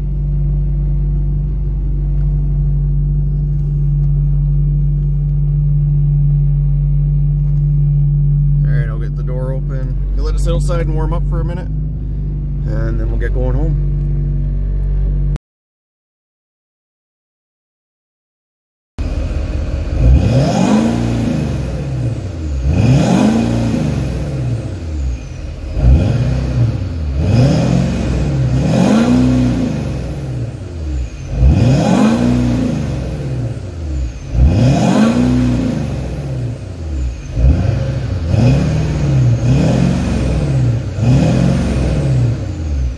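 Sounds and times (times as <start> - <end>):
diesel engine revving: 0.0 - 15.4, 19.0 - 42.9.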